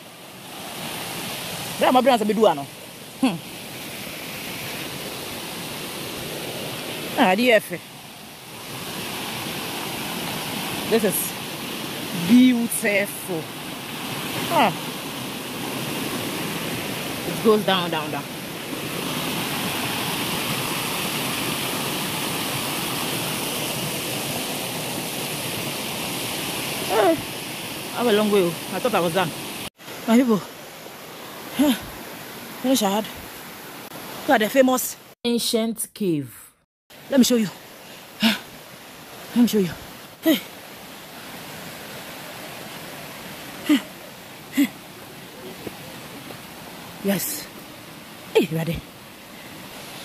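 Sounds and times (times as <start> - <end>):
stream rushing over rocks: 0.0 - 35.2, 36.9 - 50.0.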